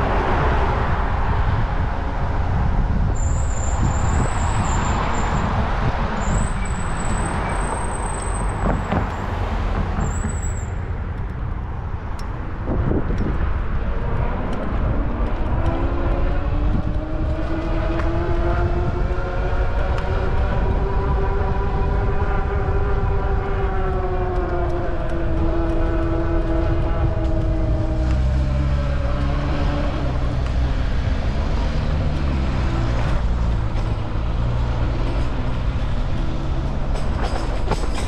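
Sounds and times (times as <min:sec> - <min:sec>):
wind buffeting microphone: 0:00.0 - 0:10.0, 0:11.1 - 0:38.0.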